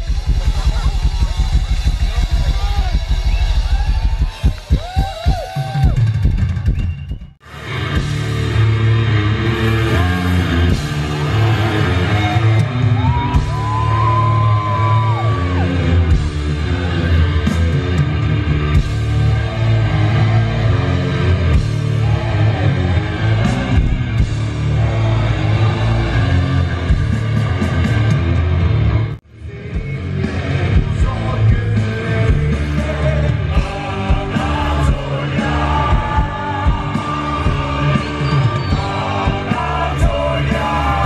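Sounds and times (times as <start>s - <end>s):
heavy metal music: 0.0s - 6.6s, 7.4s - 41.0s.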